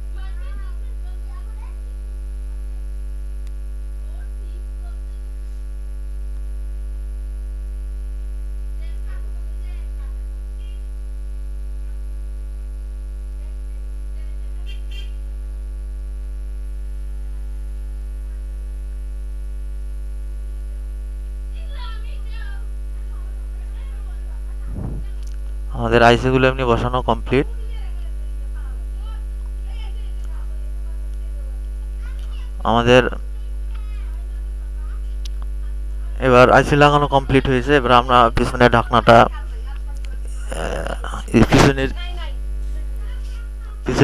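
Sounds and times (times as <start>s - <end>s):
electrical mains hum: 0.0s - 44.0s.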